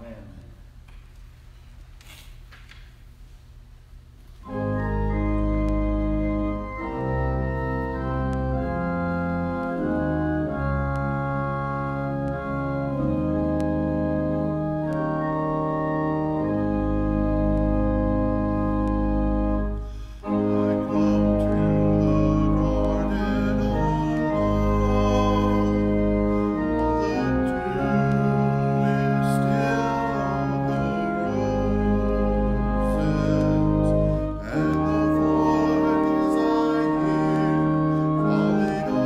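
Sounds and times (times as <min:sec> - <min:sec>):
church organ chords: 0:04.4 - 0:39.0.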